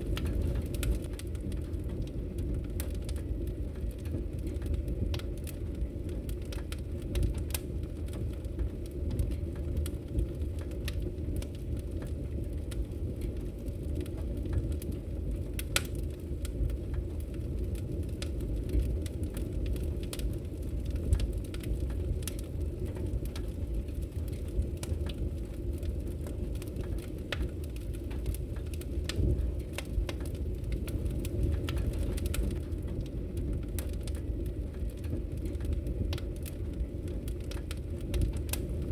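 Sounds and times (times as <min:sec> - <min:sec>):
fireplace logs crackling: 0:00.0 - 0:38.9
low fire rumble: 0:00.0 - 0:38.9.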